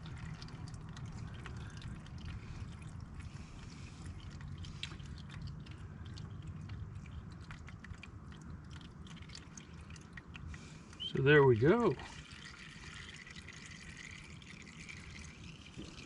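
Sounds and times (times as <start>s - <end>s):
low background rumble: 0.0s - 16.0s
oil trickling and dripping: 0.0s - 16.0s.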